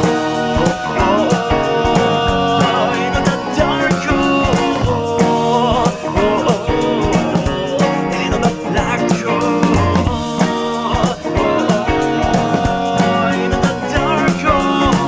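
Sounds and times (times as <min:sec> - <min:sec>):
bending lead guitar: 0:00.0 - 0:15.0
rock band instrumental: 0:00.0 - 0:15.0.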